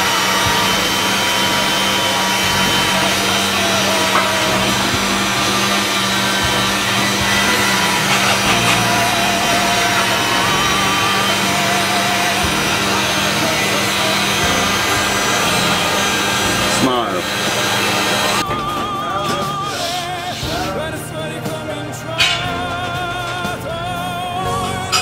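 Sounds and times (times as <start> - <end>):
pasta machine motor and rollers: 0.0 - 25.0.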